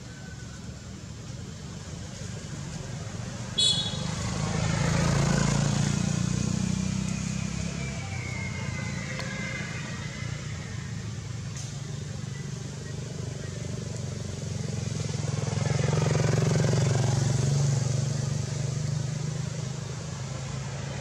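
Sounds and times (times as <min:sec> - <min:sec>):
road vehicle passing by: 0:00.0 - 0:21.0.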